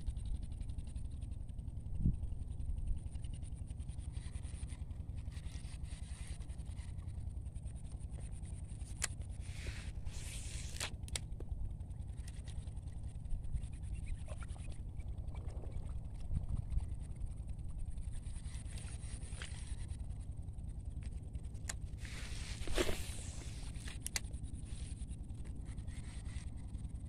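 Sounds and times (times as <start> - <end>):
steady low rumble: 0.0 - 27.0
fishing line whirring off spool: 3.1 - 27.0.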